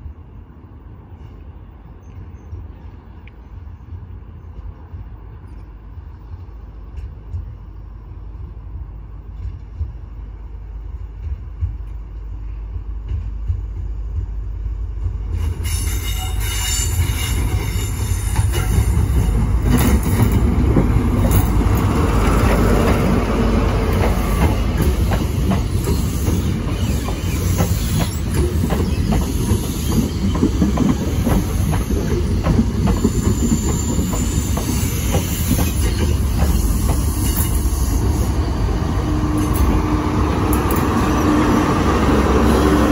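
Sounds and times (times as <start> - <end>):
diesel train passing: 0.0 - 42.9.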